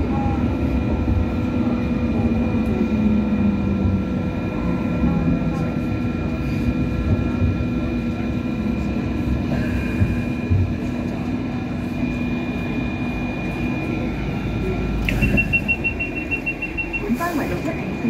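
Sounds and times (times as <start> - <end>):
constant whine tones: 0.0 - 18.0
train car rumble: 0.0 - 18.0.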